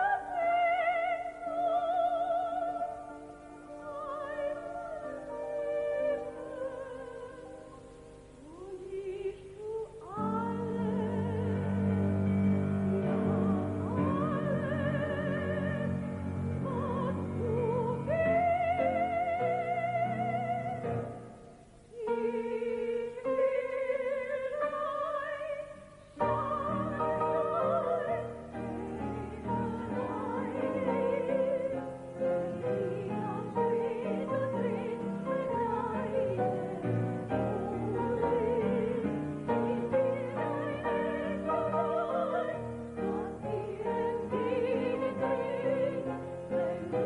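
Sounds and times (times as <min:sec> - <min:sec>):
operatic singing: 0:00.0 - 0:47.0.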